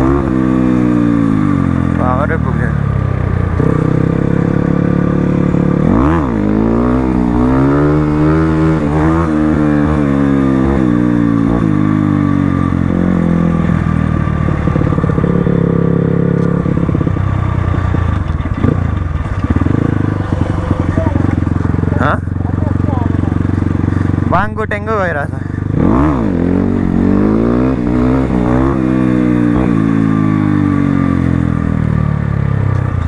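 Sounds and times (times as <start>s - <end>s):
dirt bike engine revving: 0.0s - 32.5s.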